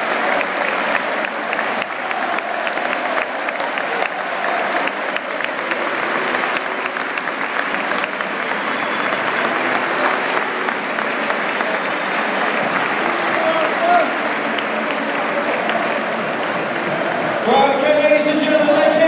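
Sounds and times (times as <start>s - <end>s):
stadium crowd applauding: 0.0s - 19.0s.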